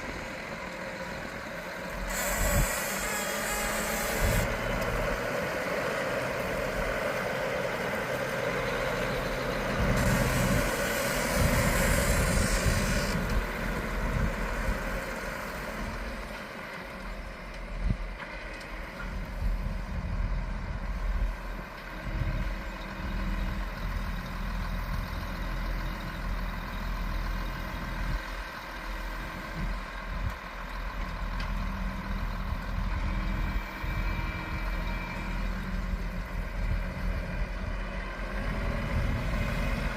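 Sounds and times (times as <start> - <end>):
heavy machinery engine rumbling: 0.0 - 39.9.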